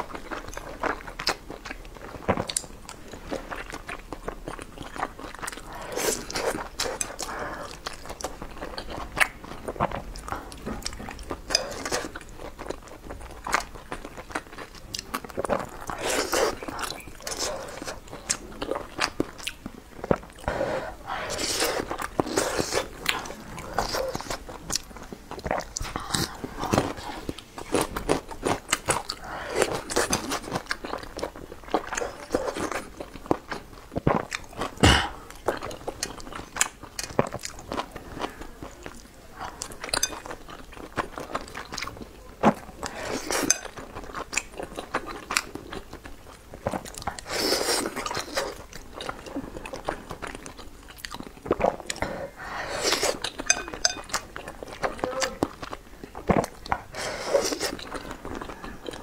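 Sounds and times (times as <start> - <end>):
wet chewing sounds: 0.0 - 59.0.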